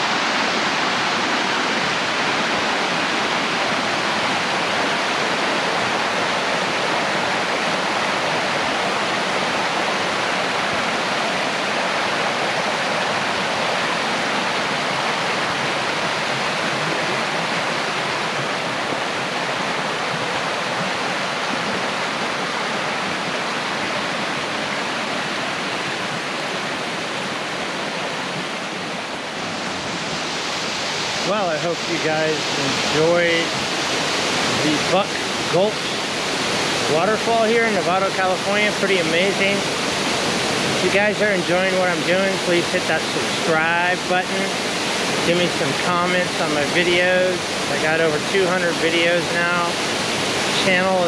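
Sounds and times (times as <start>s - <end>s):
creek waterfall rushing: 0.0s - 51.0s.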